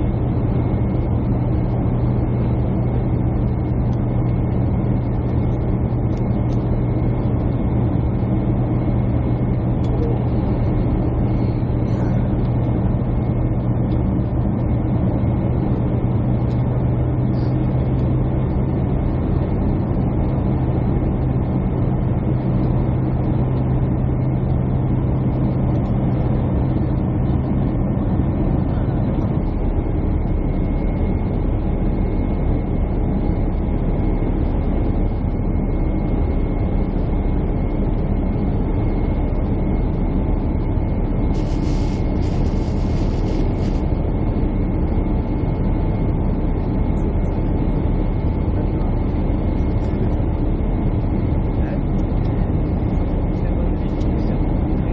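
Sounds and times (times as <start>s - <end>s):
jet engines and airflow roar: 0.0s - 54.9s
low droning hum: 0.0s - 54.9s.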